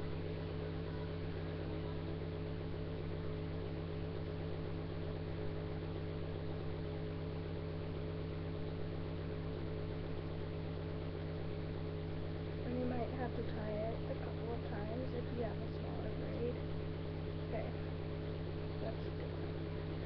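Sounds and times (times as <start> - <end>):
low buzzing hum: 0.0 - 20.0.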